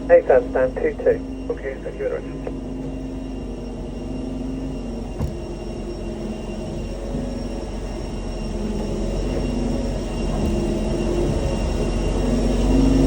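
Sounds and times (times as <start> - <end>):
aircraft mechanical hum: 0.0 - 13.0.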